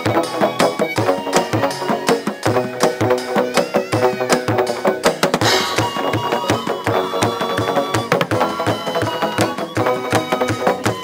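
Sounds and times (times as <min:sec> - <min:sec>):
higher melodic notes: 0:00.0 - 0:11.0.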